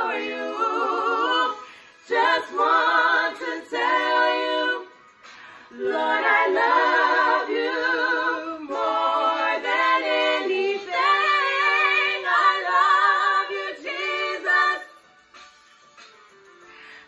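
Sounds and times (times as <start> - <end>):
women singing a cappella: 0.0 - 15.1.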